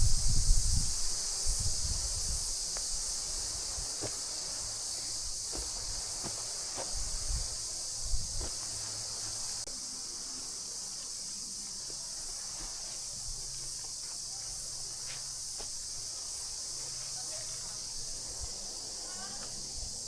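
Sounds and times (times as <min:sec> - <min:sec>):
insects chorus: 0:00.0 - 0:20.0
footsteps on trail: 0:01.8 - 0:09.7, 0:10.3 - 0:18.6.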